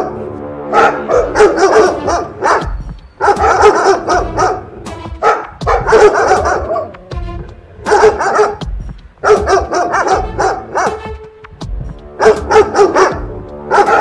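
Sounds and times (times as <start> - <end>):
dogs barking rapidly: 0.0 - 7.0, 7.8 - 11.2, 12.1 - 14.0
background music: 0.0 - 14.0.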